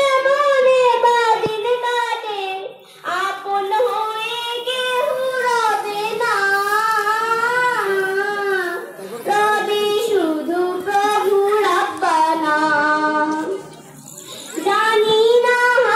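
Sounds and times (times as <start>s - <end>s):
girl singing unaccompanied: 0.0s - 13.6s, 14.5s - 15.9s.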